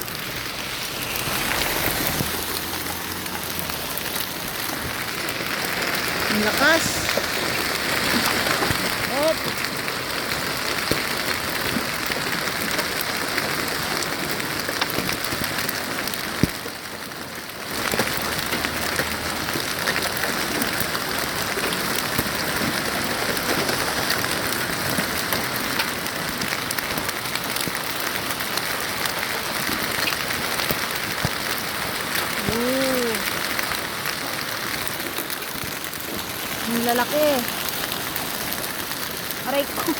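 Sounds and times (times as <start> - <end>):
hail and rain pelting: 0.0 - 39.9.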